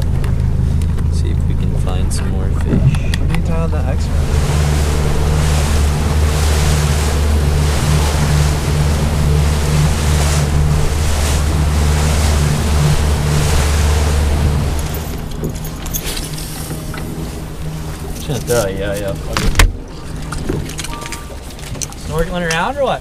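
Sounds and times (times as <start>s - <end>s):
boat engine running: 0.0s - 23.0s
rush of wind and water: 0.0s - 23.0s.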